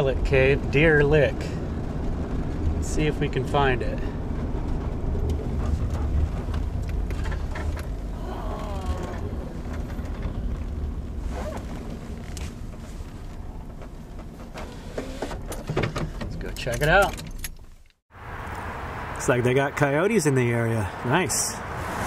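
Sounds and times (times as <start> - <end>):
van engine and road rumble: 0.0 - 22.0.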